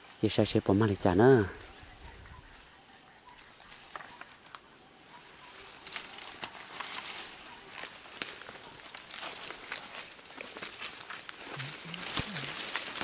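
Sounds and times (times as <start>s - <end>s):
dry leaves and twigs rustling: 0.0s - 13.0s.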